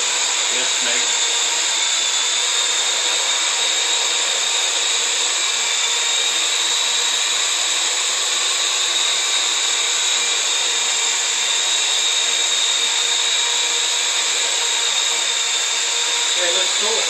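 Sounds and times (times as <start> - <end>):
quadcopter drone buzzing: 0.0 - 17.0.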